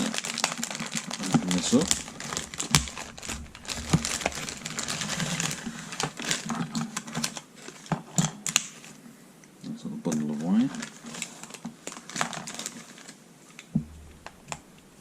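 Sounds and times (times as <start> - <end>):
plastic packaging rustling: 0.0 - 9.0, 10.1 - 15.0.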